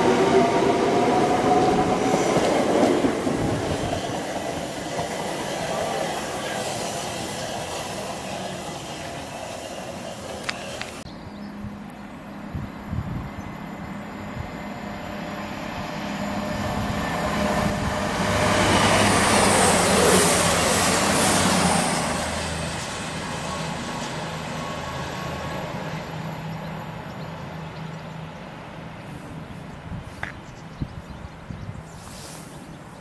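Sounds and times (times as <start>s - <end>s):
express train passing at speed: 0.0s - 33.0s.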